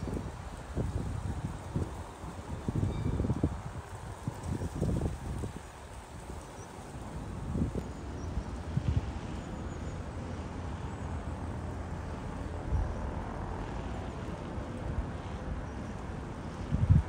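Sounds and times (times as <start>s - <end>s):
low town rumble: 0.0s - 17.0s.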